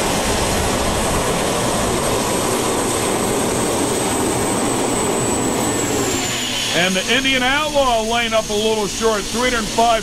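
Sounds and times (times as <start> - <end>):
gas turbine engine whine: 0.0 - 10.0.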